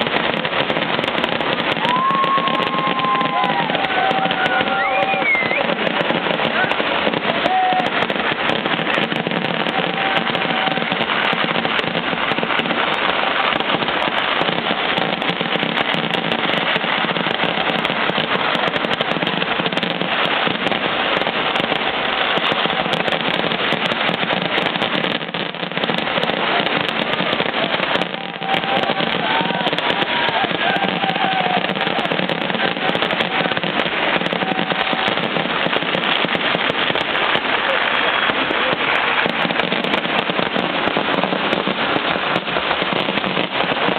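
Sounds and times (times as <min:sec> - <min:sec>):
firecrackers cracking and banging: 0:00.0 - 0:43.9.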